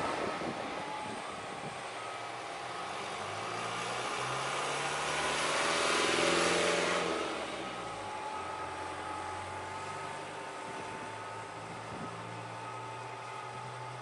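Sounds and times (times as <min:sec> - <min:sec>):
slow-moving heavy truck engine: 0:00.0 - 0:14.0
truck driving past: 0:00.0 - 0:14.0.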